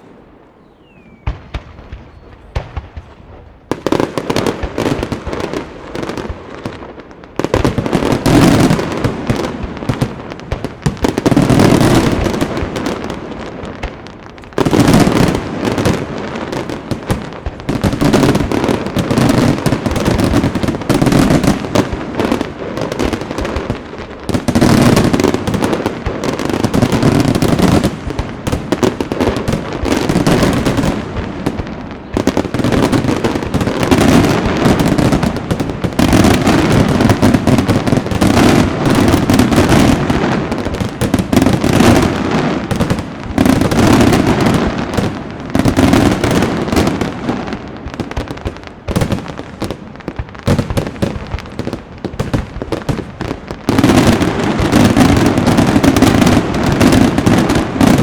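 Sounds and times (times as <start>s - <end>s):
fireworks crackle: 0.0s - 58.0s.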